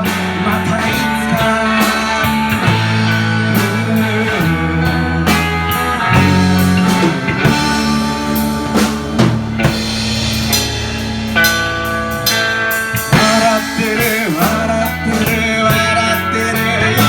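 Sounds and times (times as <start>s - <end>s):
drum kit hits: 0.0s - 16.2s
electric guitar: 0.0s - 17.0s
held bass notes: 0.0s - 17.0s.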